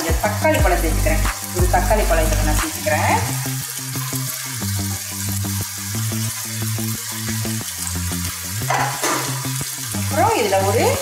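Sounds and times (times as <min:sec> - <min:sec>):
background music with beat: 0:00.0 - 0:09.7
meat sizzling in a pan: 0:00.0 - 0:11.0.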